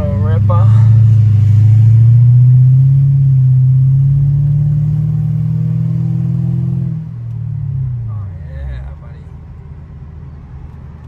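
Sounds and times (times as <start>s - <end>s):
car exhaust accelerating: 0.0s - 11.0s.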